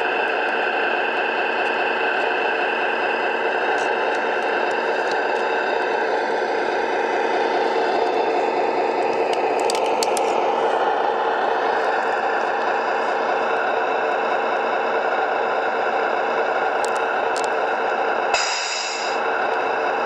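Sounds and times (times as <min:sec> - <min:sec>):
toy truck mechanical noise: 0:00.0 - 0:13.4, 0:16.3 - 0:19.6.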